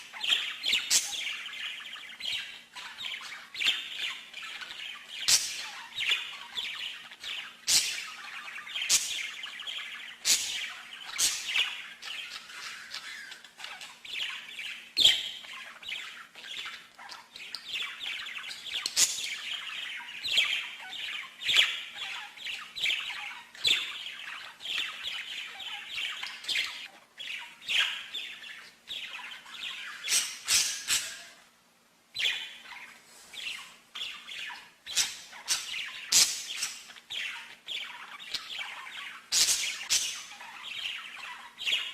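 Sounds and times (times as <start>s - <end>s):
songbird chirps and trills: 0.0s - 41.9s.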